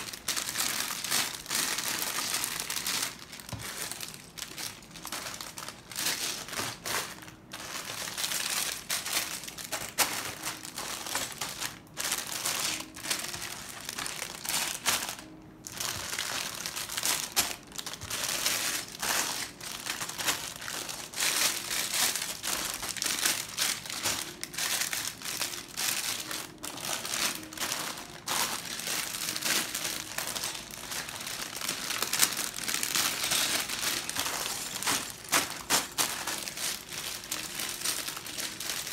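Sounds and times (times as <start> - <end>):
plastic bags crinkling: 0.0 - 38.9.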